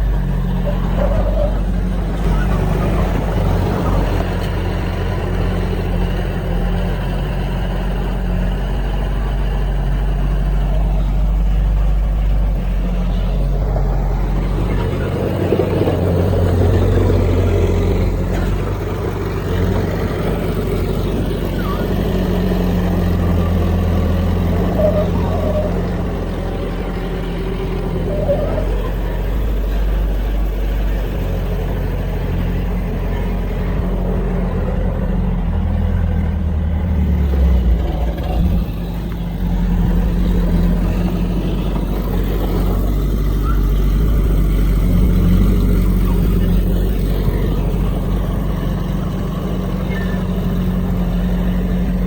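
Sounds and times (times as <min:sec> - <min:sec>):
heavy diesel machinery engine drone: 0:00.0 - 0:52.0.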